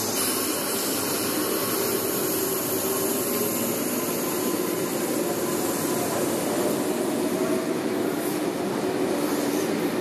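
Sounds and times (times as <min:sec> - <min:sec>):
electric trains hissing and humming: 0:00.0 - 0:10.0.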